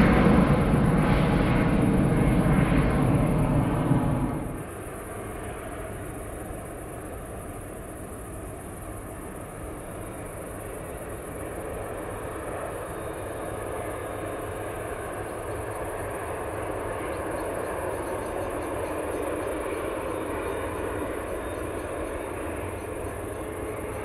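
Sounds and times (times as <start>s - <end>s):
jet engines hissing and rumbling: 0.0s - 24.0s.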